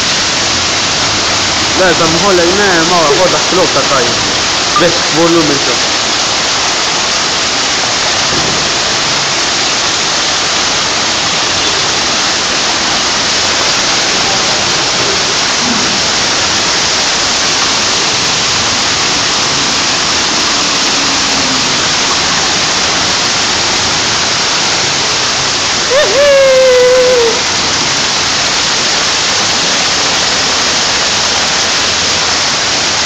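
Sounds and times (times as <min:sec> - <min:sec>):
heavy rain and hail: 0:00.0 - 0:33.0
water rushing through street: 0:00.0 - 0:33.0.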